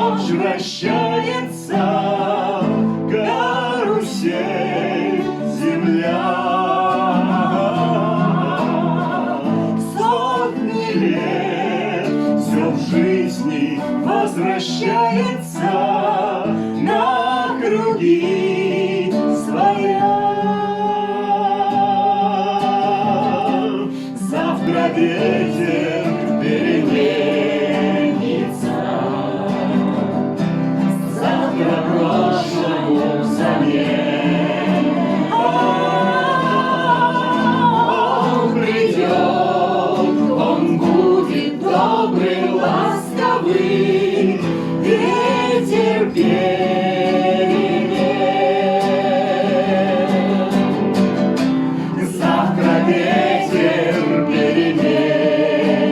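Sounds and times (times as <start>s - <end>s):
acoustic guitar: 0.0s - 55.9s
group of voices singing: 0.0s - 55.9s.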